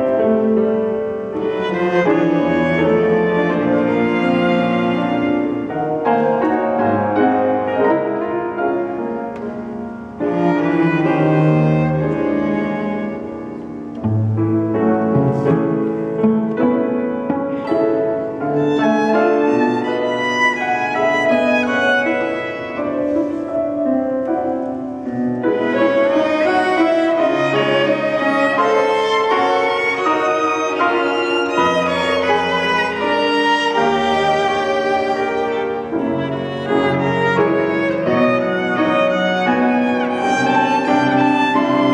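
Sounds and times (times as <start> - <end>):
piano trio chamber music: 0.0 - 41.9.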